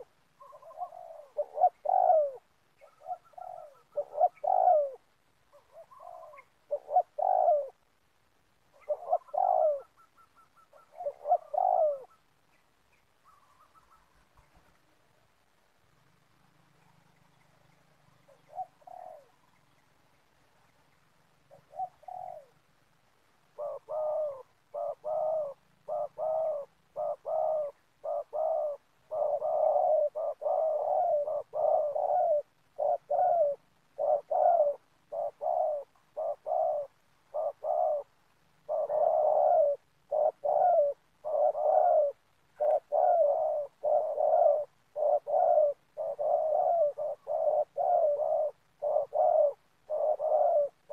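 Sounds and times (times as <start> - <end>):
dove cooing: 0.0 - 8.0, 8.7 - 12.4, 18.0 - 19.7, 21.4 - 22.8, 23.4 - 50.9.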